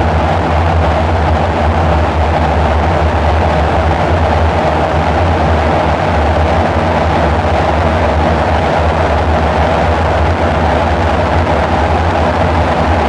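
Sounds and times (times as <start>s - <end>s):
dark synthesizer drone: 0.0s - 13.0s.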